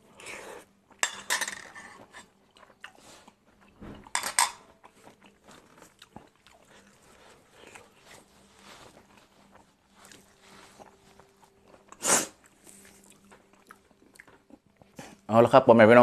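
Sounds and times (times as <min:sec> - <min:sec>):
chewing food: 0:01.8 - 0:15.3.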